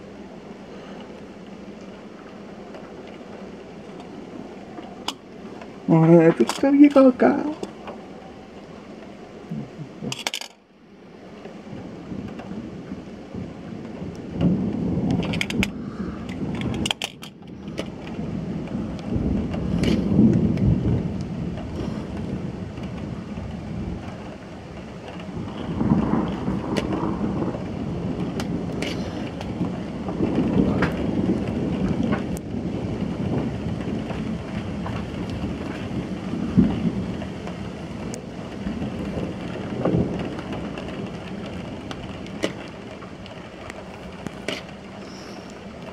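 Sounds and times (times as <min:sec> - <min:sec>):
rain falling: 0:00.0 - 0:45.9
thunder rumbling: 0:00.0 - 0:45.9.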